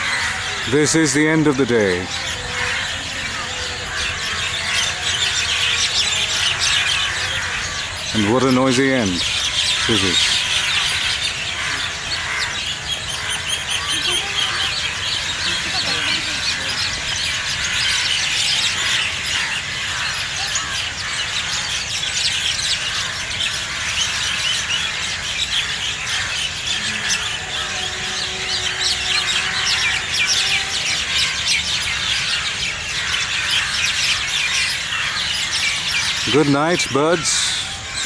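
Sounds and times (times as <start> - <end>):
flock of birds chirping: 0.0 - 38.0.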